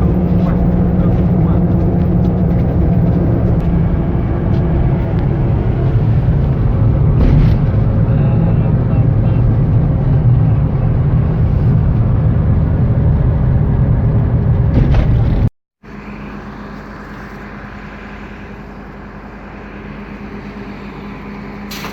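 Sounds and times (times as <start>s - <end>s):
vehicle engine rumble: 0.0s - 21.9s.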